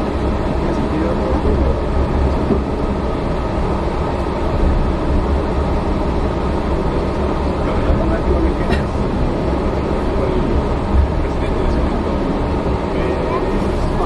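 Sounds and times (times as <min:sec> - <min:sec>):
train tyres rumbling on concrete: 0:00.0 - 0:14.0.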